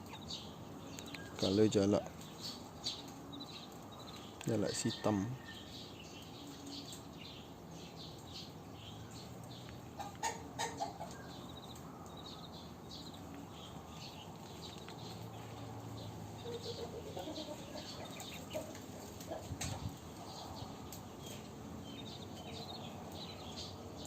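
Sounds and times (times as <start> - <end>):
chickens clucking: 0.0 - 5.4, 9.4 - 23.7
small birds chirping: 0.0 - 24.0.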